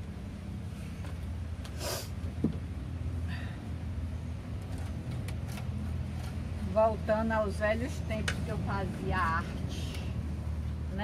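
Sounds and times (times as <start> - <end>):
low motor rumble: 0.0 - 11.0.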